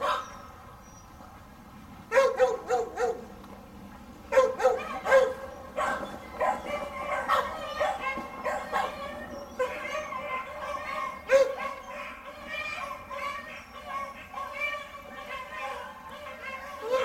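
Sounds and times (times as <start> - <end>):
dogs barking and yipping: 0.0 - 1.1, 2.1 - 3.4, 4.2 - 17.0.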